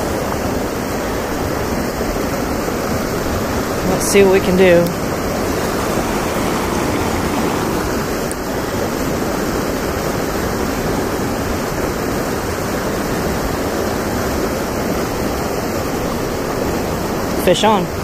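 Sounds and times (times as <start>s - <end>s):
fast-flowing river water rushing: 0.0s - 18.0s.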